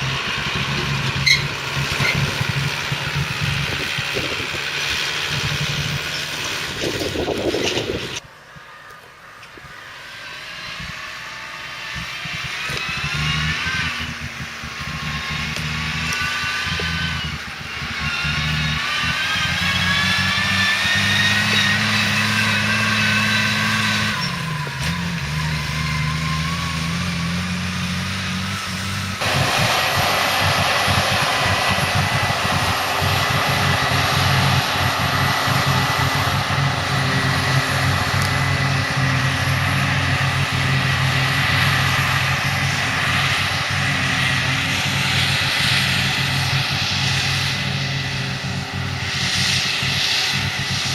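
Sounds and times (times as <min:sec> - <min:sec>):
heavy machinery engines running: 0:00.0 - 0:50.9
high-pitched whine: 0:00.0 - 0:50.9.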